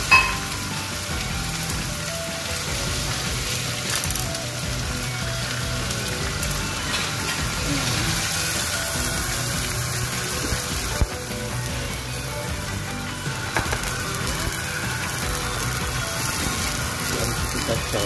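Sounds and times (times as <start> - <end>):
paste sizzling in hot oil: 0.0 - 18.0.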